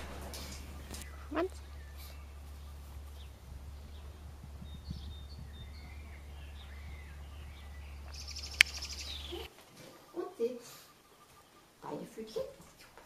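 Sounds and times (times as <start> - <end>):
small birds chirping: 0.0 - 13.0
steady low outdoor rumble: 0.0 - 13.0.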